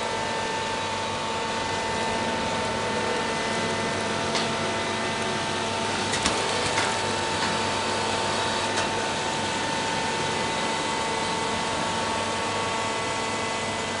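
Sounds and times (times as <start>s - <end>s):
hay baler running: 0.0s - 14.0s.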